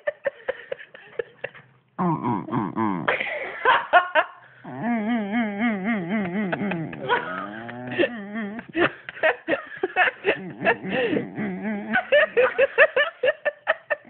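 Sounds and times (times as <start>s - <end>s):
person giggling: 0.0s - 14.0s.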